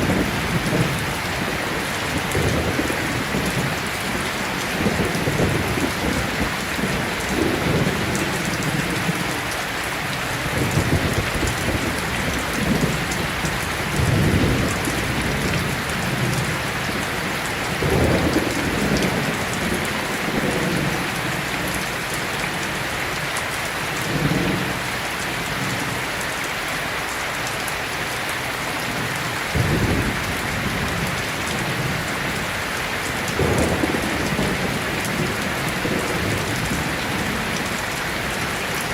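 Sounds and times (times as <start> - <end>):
thunder rumbling: 0.0 - 9.6, 10.3 - 22.8, 28.9 - 38.9
steady rain falling: 0.0 - 38.9.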